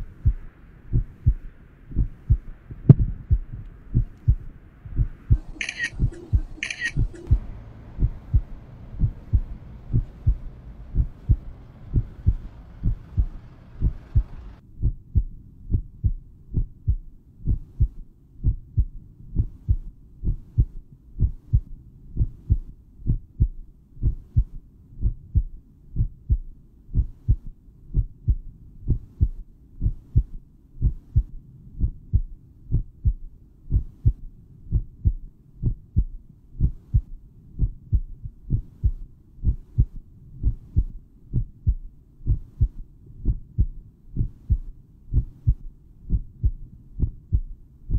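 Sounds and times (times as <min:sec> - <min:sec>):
faint background hiss: 0:00.0 - 0:47.9
heartbeat low thumps: 0:00.0 - 0:47.9.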